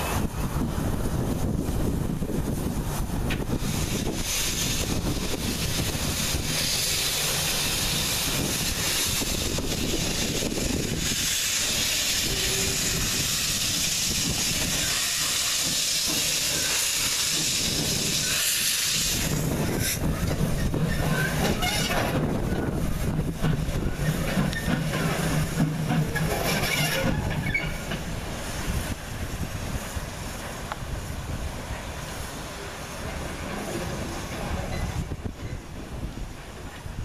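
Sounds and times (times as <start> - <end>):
loud steam hiss: 0.0 - 37.0
steam locomotive rumble: 0.0 - 37.0.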